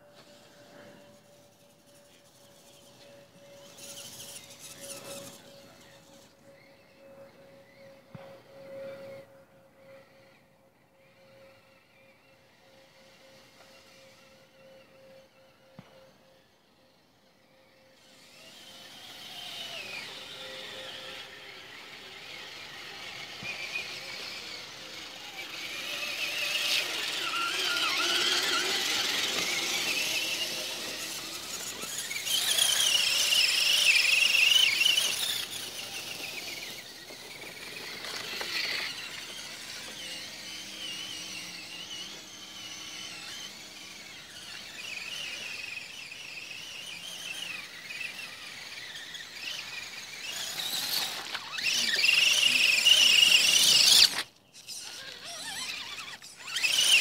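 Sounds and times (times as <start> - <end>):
toy truck motor whining: 0.0 - 57.0.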